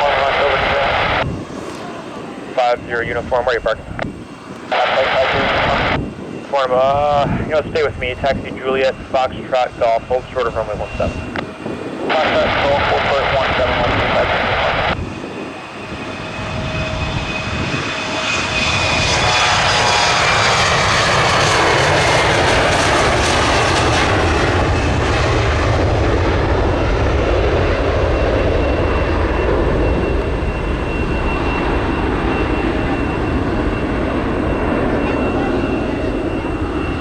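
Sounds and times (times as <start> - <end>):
jet engine whine: 0.0 - 37.0
jet rumble: 0.0 - 37.0.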